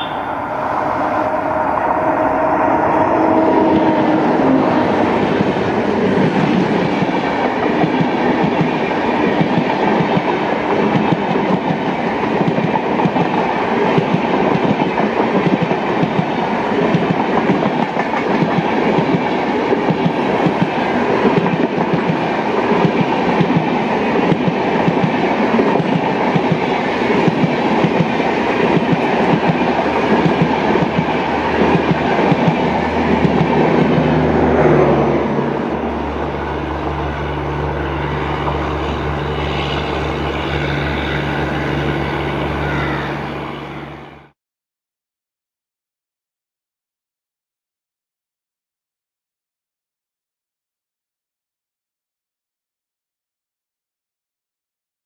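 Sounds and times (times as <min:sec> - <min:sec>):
train wheels rumbling on rail: 0:00.0 - 0:44.1.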